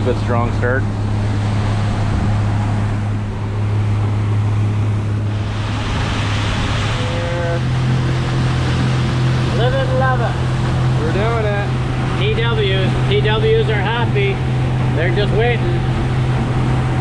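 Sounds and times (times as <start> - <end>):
boat motor humming: 0.0 - 17.0
rushing water and wind: 0.0 - 17.0.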